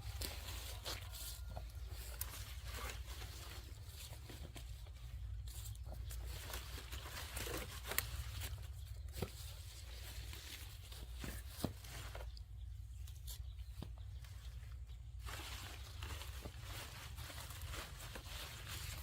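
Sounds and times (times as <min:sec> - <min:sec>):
irregular rustling: 0:00.0 - 0:19.0.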